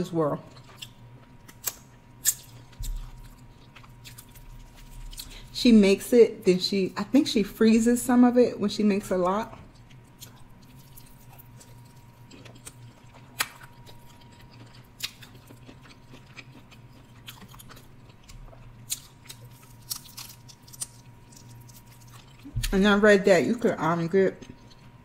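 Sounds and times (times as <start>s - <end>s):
person chewing crispy food: 0.3s - 5.6s, 9.4s - 22.8s, 23.5s - 25.0s.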